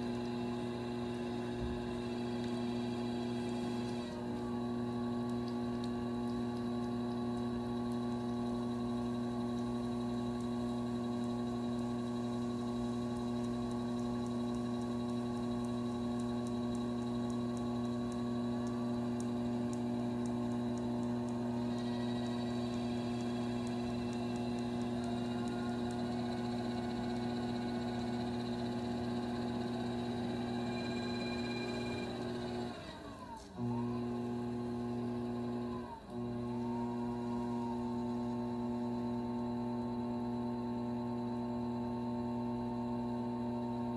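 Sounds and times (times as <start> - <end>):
potter's wheel motor humming: 0.0 - 43.9.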